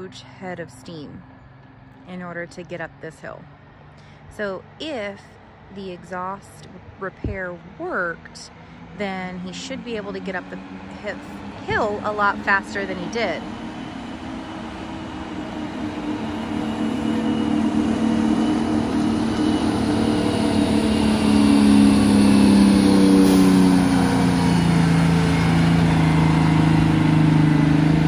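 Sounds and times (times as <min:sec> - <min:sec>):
coach diesel engine labouring uphill: 0:00.0 - 0:28.0.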